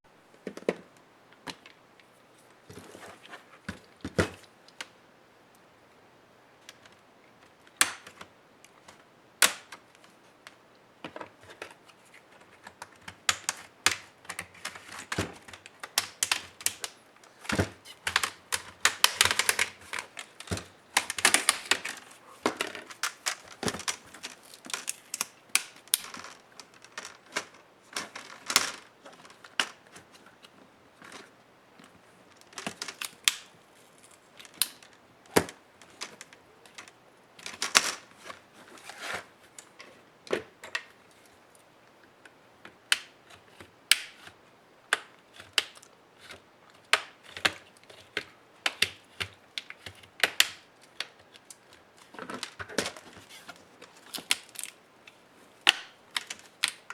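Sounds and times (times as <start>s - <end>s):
clicks and plastic snaps: 6.6s - 38.4s, 42.2s - 56.9s.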